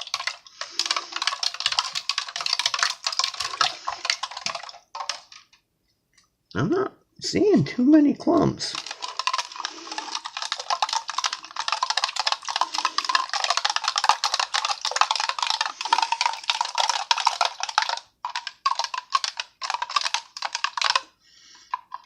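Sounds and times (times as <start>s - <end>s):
metal spoon stirring in cup: 0.0s - 5.5s, 8.7s - 22.0s.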